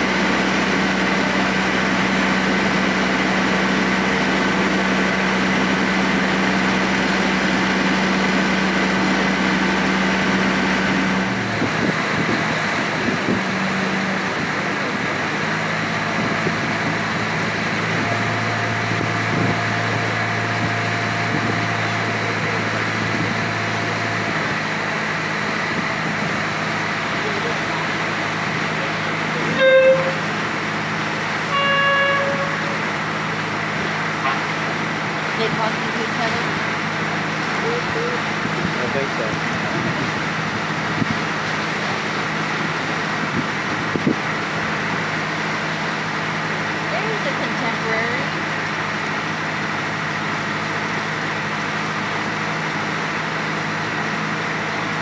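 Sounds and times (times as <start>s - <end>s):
boat engine humming: 0.0s - 55.0s
water churning along hull: 0.0s - 55.0s.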